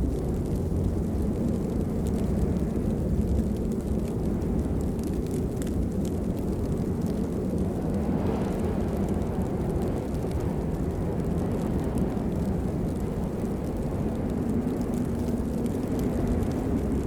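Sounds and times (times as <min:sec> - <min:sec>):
steady rain rushing: 0:00.0 - 0:17.0.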